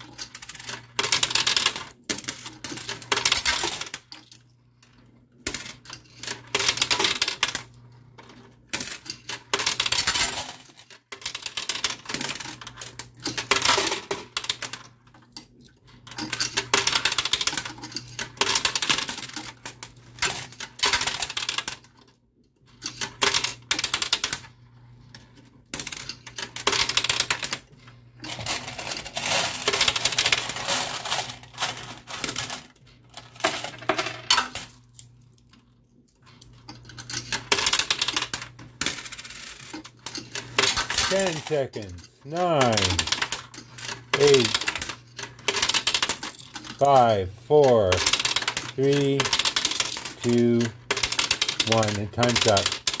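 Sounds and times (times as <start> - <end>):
coins clinking in arcade machine: 0.0 - 4.4, 5.4 - 7.8, 8.6 - 15.0, 16.0 - 22.1, 22.8 - 24.5, 25.2 - 35.4, 36.4 - 53.0
machine low hum: 0.0 - 53.0.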